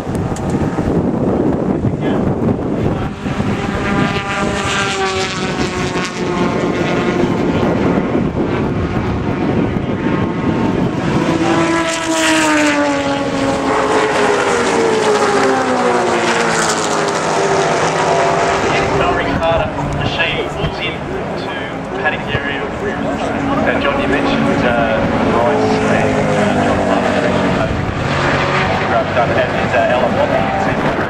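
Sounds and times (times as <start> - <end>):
racing car engines passing: 0.0 - 31.0.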